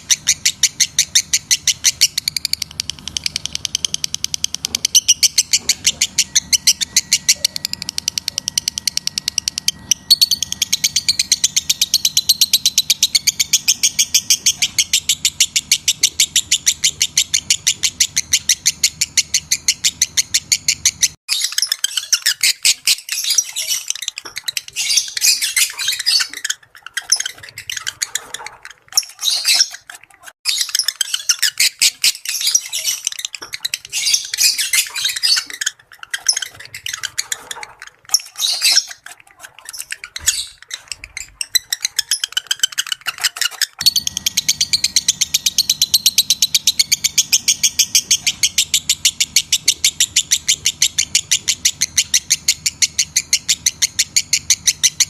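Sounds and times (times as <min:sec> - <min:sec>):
lovebirds chattering chirps: 0:00.0 - 0:55.0
rapid repeated chirping: 0:00.0 - 0:55.0.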